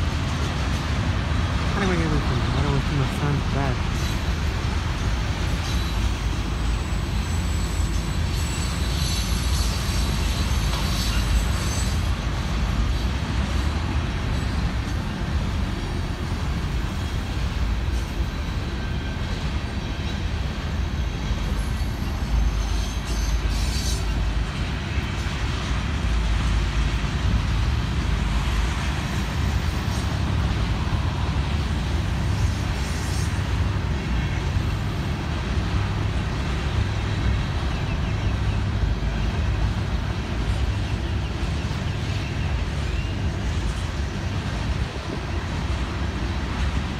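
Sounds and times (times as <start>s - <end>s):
freight train wheels rumbling: 0.0s - 46.9s.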